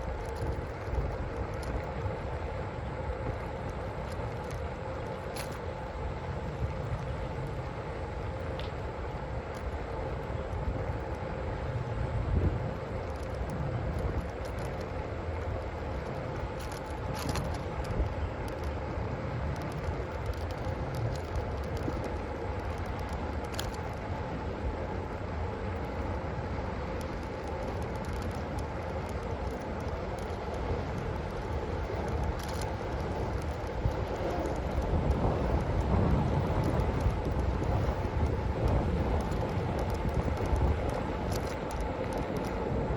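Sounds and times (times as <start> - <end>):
vehicle humming and rumbling: 0.0 - 42.9
wind on microphone: 0.0 - 42.9.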